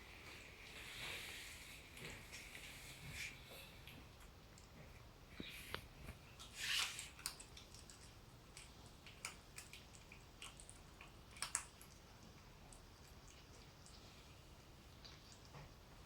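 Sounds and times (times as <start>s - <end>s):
cat chewing food: 1.8s - 16.0s.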